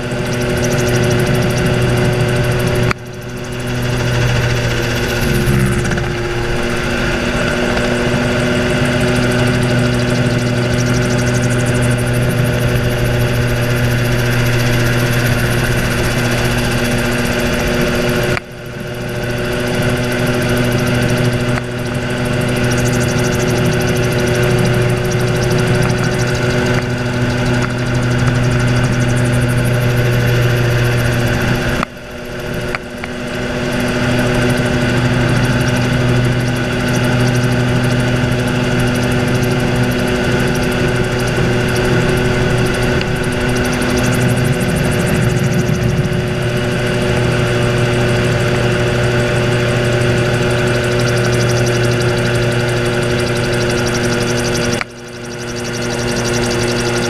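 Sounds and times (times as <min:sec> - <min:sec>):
gyrocopter engine and propeller drone: 0:00.0 - 0:57.0.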